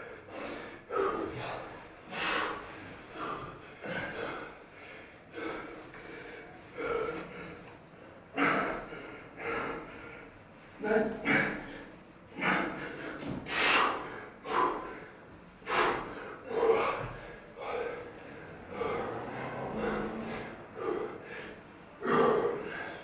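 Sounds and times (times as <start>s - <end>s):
men breathing hard and gasping: 0.0s - 23.0s.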